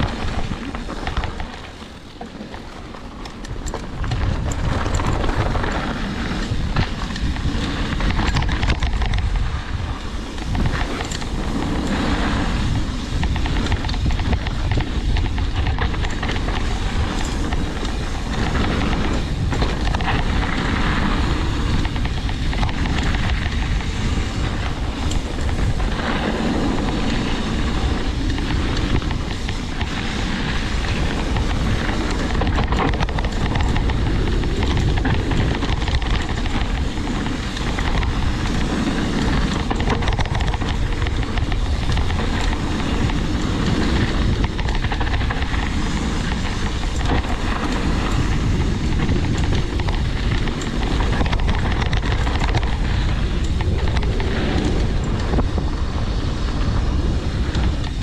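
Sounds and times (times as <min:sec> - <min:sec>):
mountain bike rattling: 0:00.0 - 0:58.0
wind on microphone: 0:00.0 - 0:58.0.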